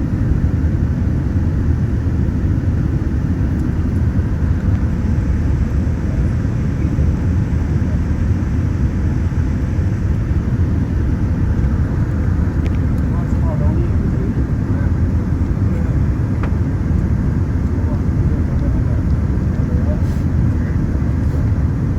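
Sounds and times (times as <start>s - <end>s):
airliner engines rumbling in cabin: 0.0s - 21.9s.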